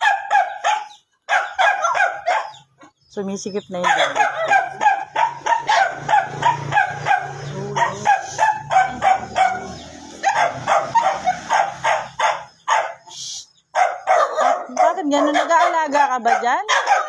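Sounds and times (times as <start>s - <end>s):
dog barking: 0.0s - 2.9s, 3.8s - 13.1s, 13.7s - 17.0s.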